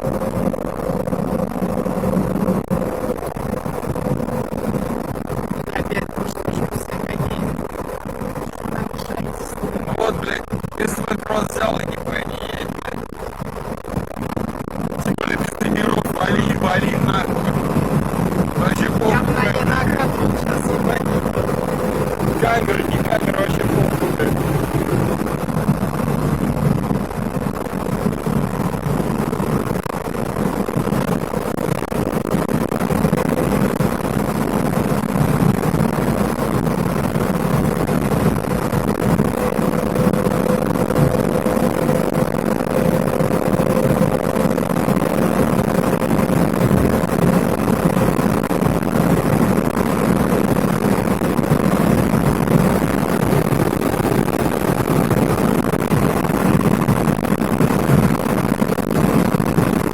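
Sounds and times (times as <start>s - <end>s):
car engine running: 0.0s - 59.9s
faint whine: 0.0s - 59.9s.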